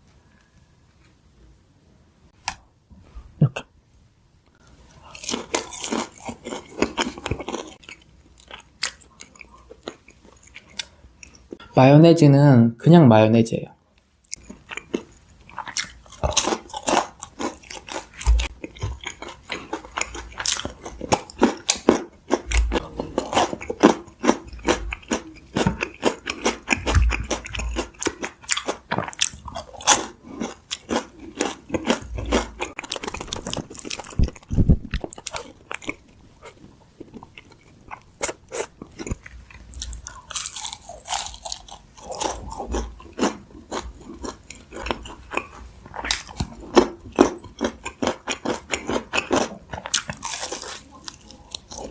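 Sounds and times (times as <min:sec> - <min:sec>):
crunching and chewing chicken: 0:04.9 - 0:11.6, 0:14.2 - 0:51.9.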